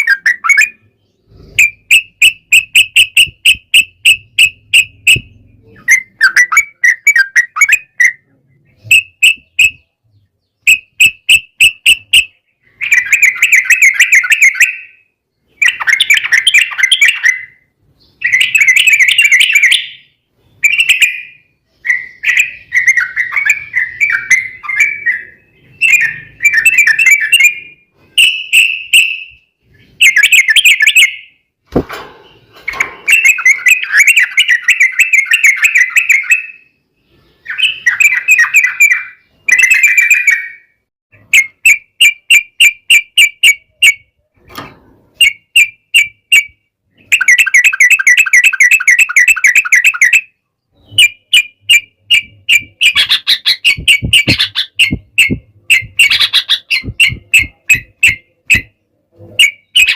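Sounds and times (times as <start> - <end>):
birds singing chattering phrases: 0.0 - 31.5, 32.2 - 44.2, 45.2 - 59.9.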